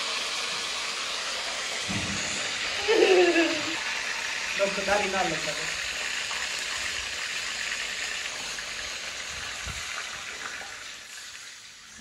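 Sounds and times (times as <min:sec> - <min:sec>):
liquid sizzling in hot oil: 0:00.0 - 0:12.0.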